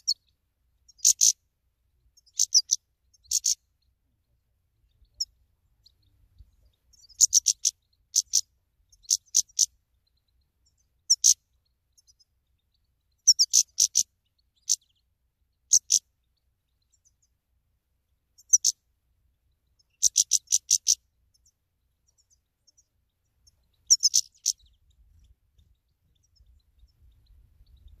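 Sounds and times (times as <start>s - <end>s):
goldfinch chirping: 0.0s - 1.4s, 2.0s - 4.0s, 4.7s - 17.4s, 18.1s - 28.0s.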